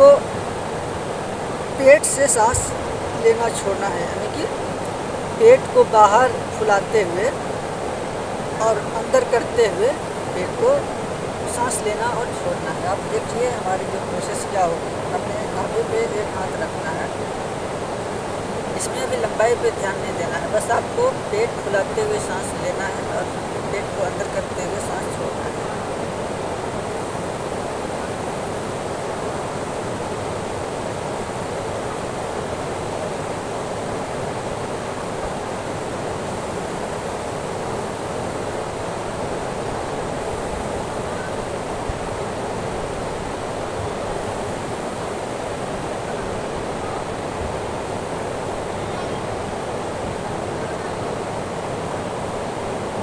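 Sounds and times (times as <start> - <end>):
flowing river rushing: 0.0 - 53.0.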